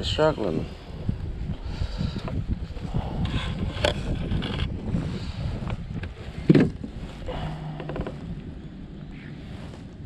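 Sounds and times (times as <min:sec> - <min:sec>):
wind buffeting microphone: 0:00.0 - 0:10.0
water around kayak: 0:00.8 - 0:10.0.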